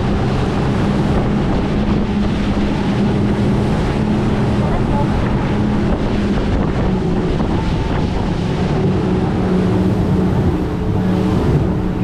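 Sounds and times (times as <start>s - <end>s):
speedboat engine drone: 0.0s - 12.0s
water rushing past hull: 0.0s - 12.0s
wind buffeting microphone: 0.0s - 12.0s.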